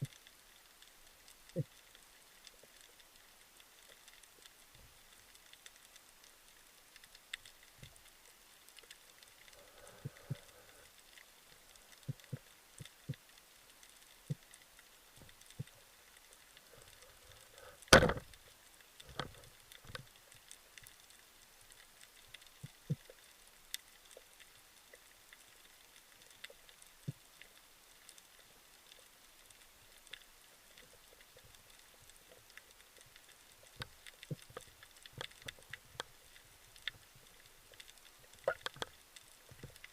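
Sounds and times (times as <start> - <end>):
faint underwater crackle: 0.0 - 39.9
small clicks: 0.0 - 39.9.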